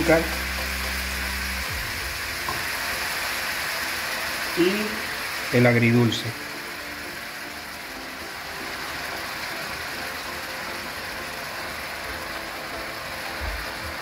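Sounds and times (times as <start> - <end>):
vegetables sizzling in a wok: 0.0 - 14.0
sauce pouring: 0.1 - 14.0.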